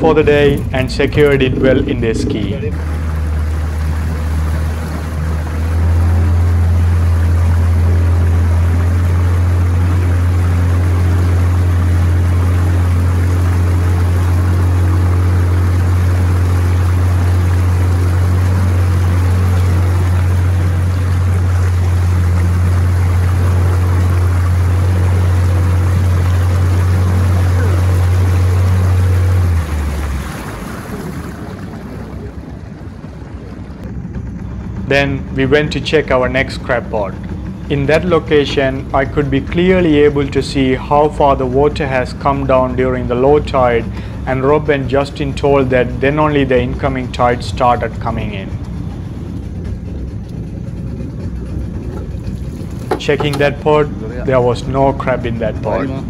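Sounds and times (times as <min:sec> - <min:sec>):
boat motor humming: 0:00.0 - 0:56.0
water rushing: 0:00.0 - 0:56.0
wind: 0:00.0 - 0:56.0.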